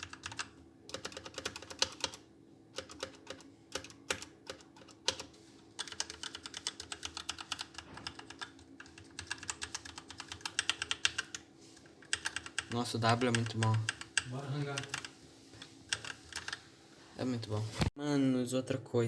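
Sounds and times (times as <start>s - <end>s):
mechanical keyboard typing: 0.0s - 15.1s, 15.9s - 16.6s.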